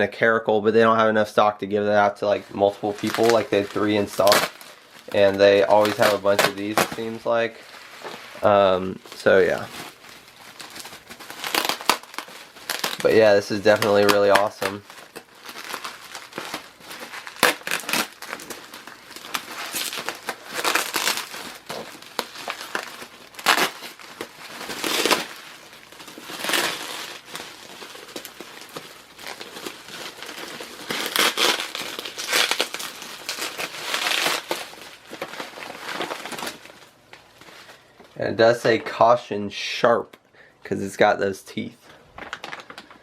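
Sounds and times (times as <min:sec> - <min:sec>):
packaging rustling and crinkling: 0:02.2 - 0:38.9, 0:41.9 - 0:43.0.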